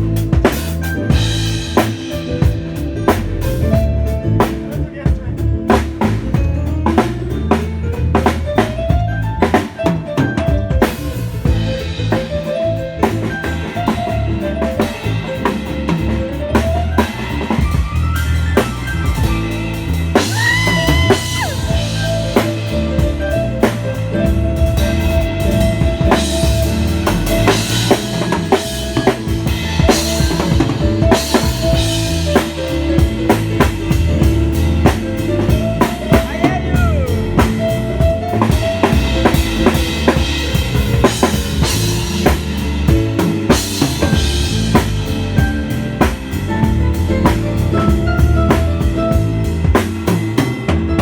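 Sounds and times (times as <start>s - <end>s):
drum kit playing: 0.0s - 51.0s.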